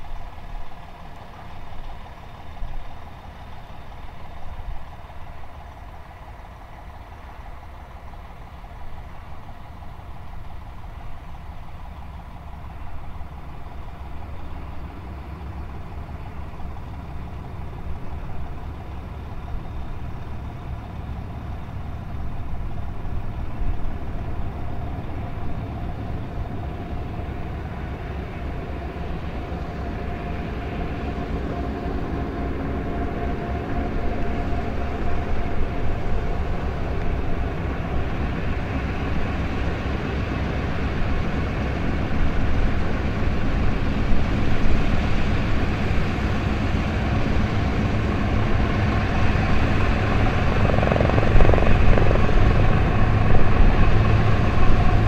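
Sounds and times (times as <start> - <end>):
propeller aircraft engines droning: 0.0 - 55.0.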